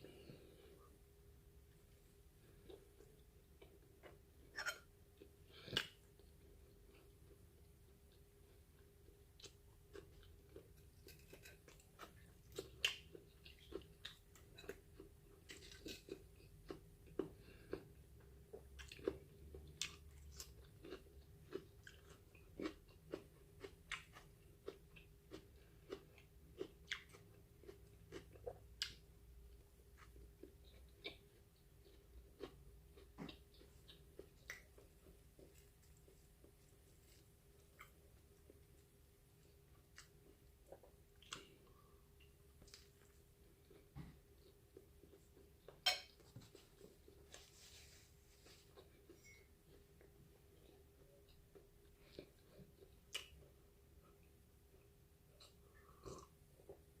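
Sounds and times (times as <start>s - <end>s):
person chewing food: 1.8s - 57.0s.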